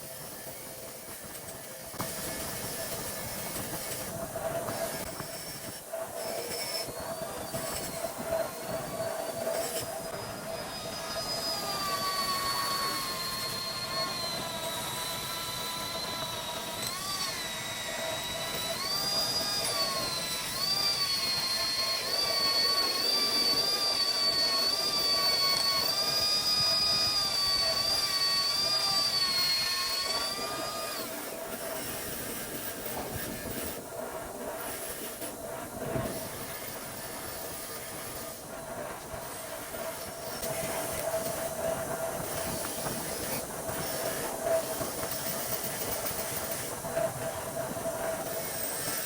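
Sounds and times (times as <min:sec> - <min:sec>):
power tool whining: 0:00.0 - 0:49.0.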